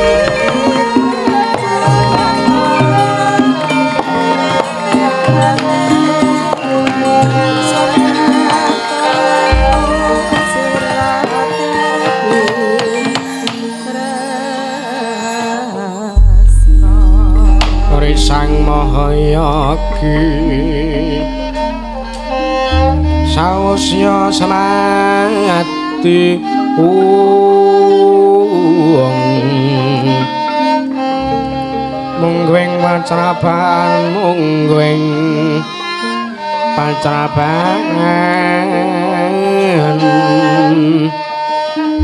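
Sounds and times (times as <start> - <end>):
gamelan music: 0.0 - 42.0.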